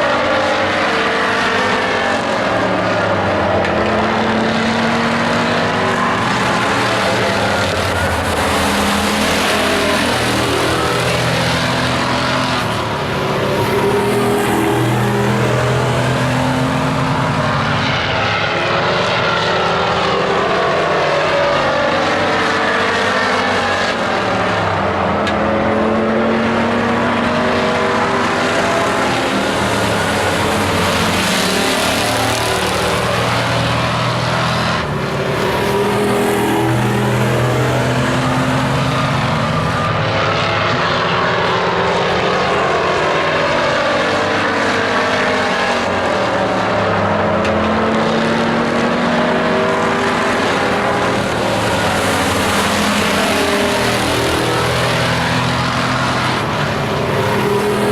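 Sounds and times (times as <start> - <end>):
race truck engines accelerating: 0.0 - 57.9.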